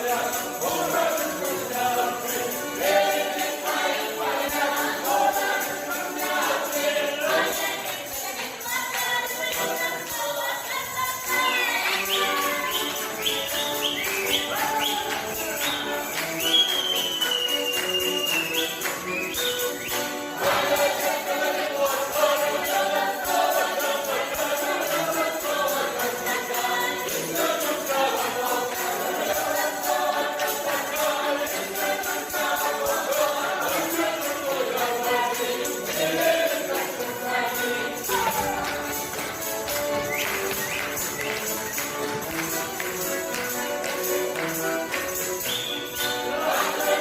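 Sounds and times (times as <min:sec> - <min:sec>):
folk ensemble singing: 0:00.0 - 0:47.0
jingling percussion: 0:00.0 - 0:47.0.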